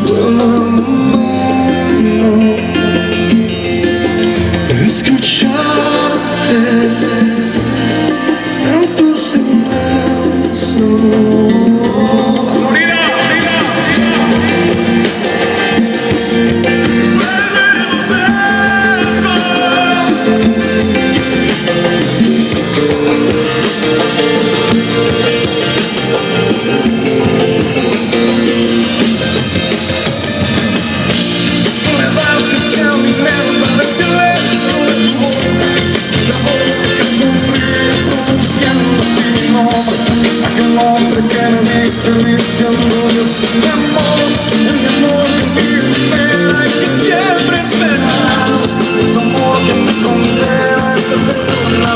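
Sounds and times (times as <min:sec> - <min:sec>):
pop-rock band instrumental: 0:00.0 - 0:51.9.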